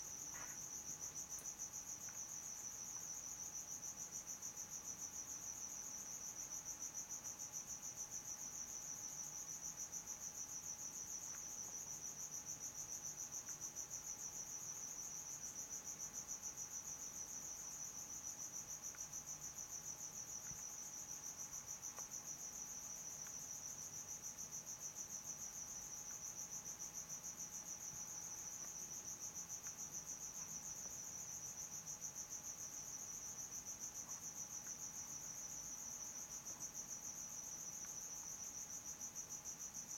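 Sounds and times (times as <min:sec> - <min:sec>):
faint steady tone: 0:00.0 - 0:39.9.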